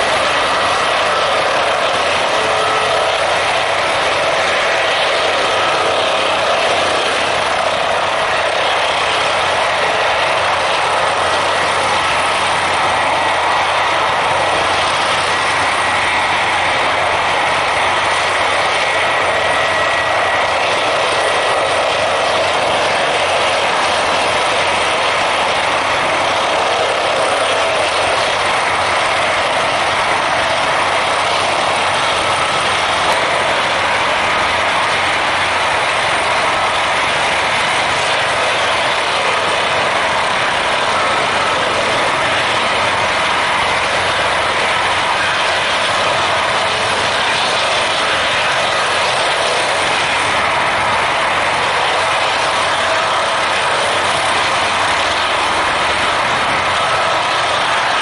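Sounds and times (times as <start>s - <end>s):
helicopter hovering: 0.0s - 58.0s
thin high whine: 0.0s - 58.0s.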